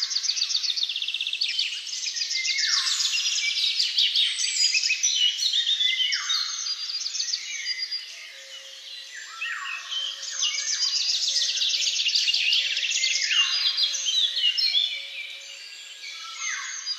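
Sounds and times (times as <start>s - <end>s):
chorus of songbirds singing: 0.0s - 16.9s.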